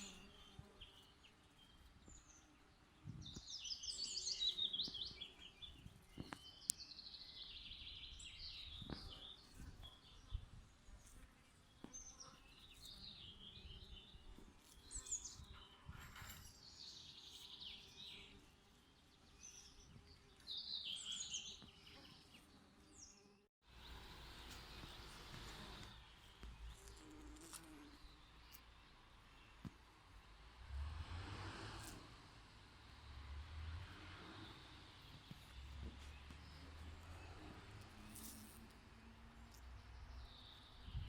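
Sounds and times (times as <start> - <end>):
songbird chirping: 0.0 - 30.3, 33.0 - 41.0.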